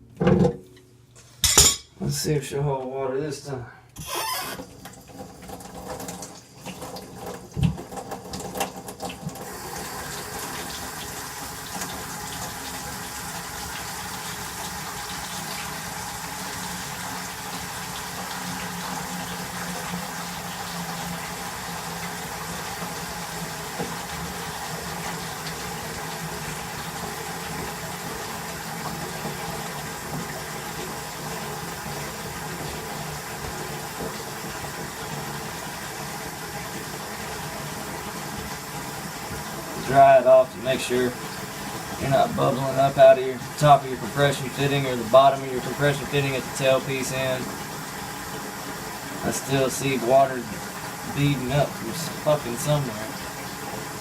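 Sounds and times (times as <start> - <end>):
faucet running into sink: 4.0 - 54.0.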